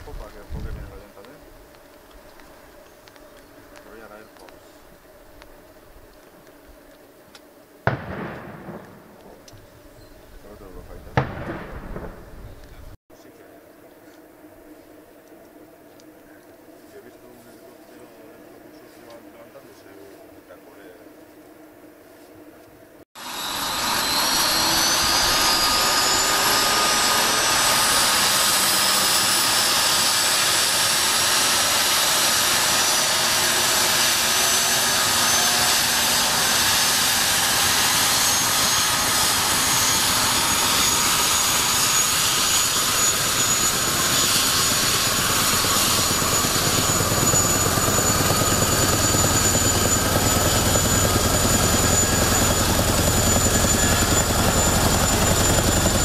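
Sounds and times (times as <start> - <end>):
turbine engine whine: 0.0 - 56.0.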